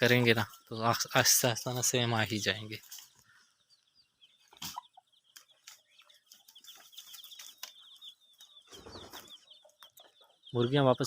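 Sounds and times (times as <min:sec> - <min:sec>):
chickens clucking faintly: 0:00.0 - 0:11.0
high chirping or peeping: 0:00.0 - 0:11.0.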